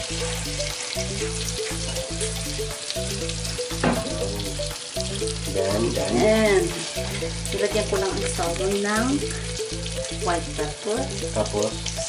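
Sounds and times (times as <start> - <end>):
background music: 0.0 - 12.0
fish sizzling in a frying pan: 0.0 - 12.0.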